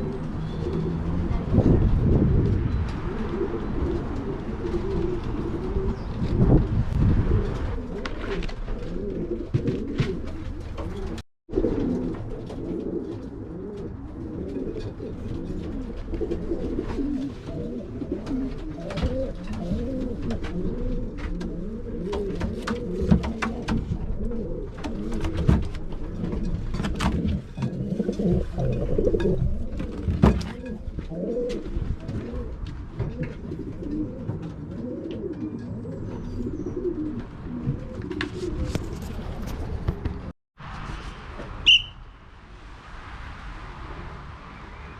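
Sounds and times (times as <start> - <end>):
pigeons cooing: 0.0 - 40.3.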